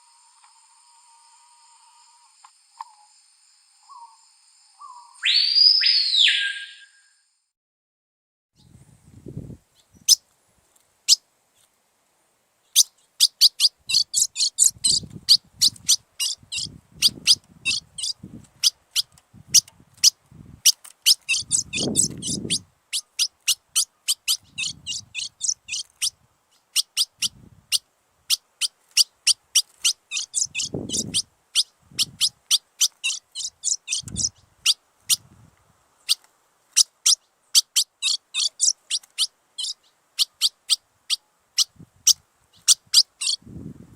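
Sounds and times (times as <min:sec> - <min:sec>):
songbird singing: 0:00.0 - 0:07.2, 0:09.4 - 0:10.3, 0:12.6 - 0:43.6.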